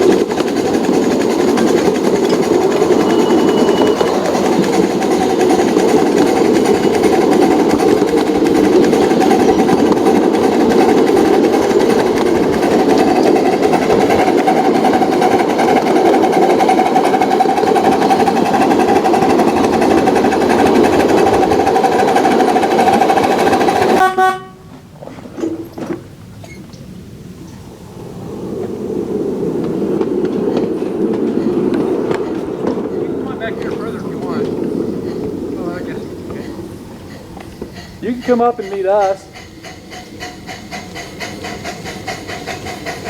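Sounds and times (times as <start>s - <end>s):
wheels rolling on track: 0.0s - 43.0s.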